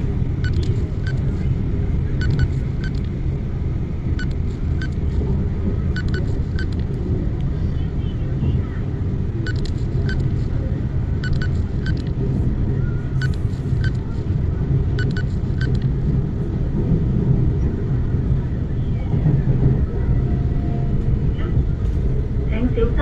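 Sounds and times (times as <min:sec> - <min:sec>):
train running low rumble: 0:00.0 - 0:23.0.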